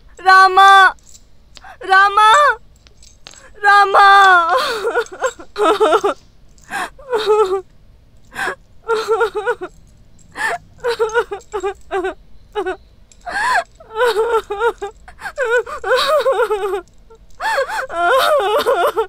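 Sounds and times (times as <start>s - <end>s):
person crying in gasping sobs: 1.6s - 2.6s, 3.4s - 7.6s, 8.3s - 9.8s, 10.4s - 19.0s.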